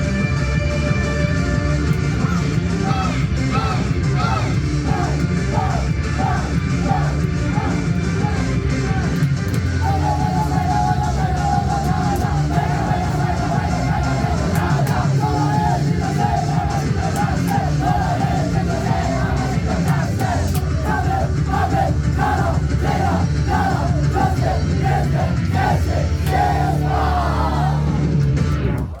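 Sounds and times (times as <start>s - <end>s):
rock music with loud vocals: 0.0s - 29.0s.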